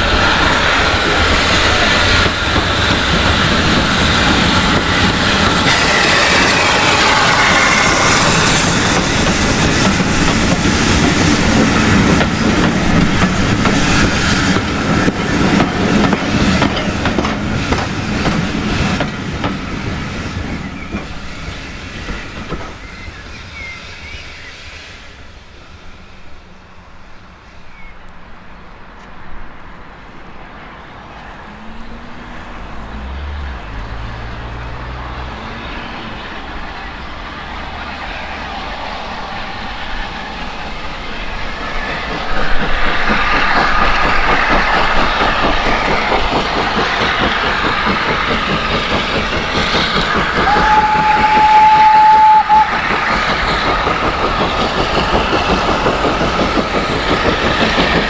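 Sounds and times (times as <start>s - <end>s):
steam locomotive exhaust beating: 0.0s - 58.0s.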